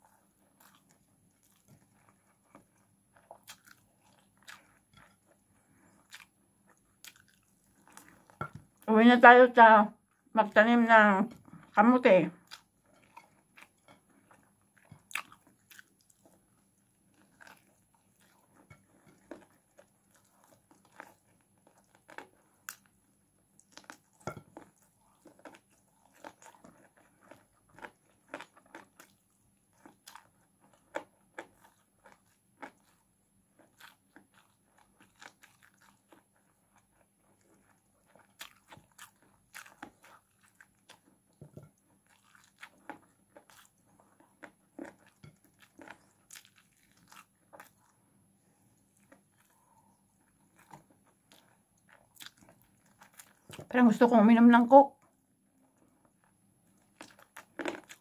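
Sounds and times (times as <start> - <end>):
person chewing with wet mouth clicks: 0.5 - 5.4, 6.0 - 8.8, 12.4 - 23.0, 23.6 - 48.0, 48.9 - 53.7, 55.7 - 58.0.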